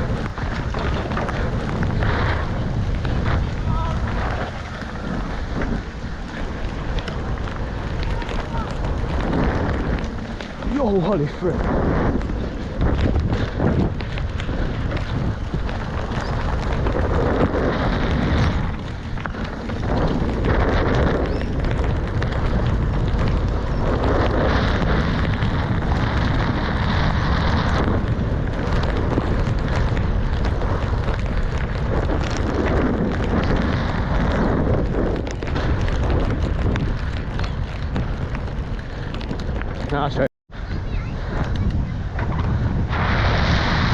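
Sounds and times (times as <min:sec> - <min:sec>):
bike rolling over dirt trail: 0:00.0 - 0:43.9
wind buffeting microphone: 0:00.0 - 0:43.9.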